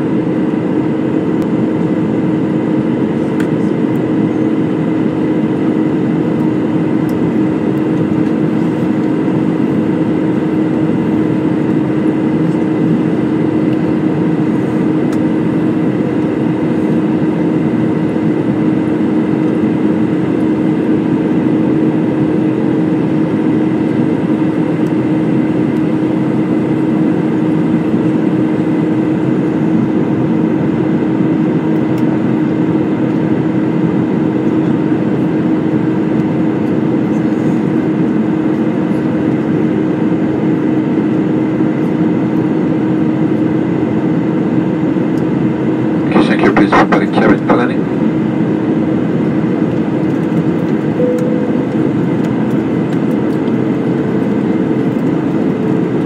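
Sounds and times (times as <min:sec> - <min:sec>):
jet engine drone: 0:00.0 - 0:56.0
steady low hum: 0:00.0 - 0:56.0.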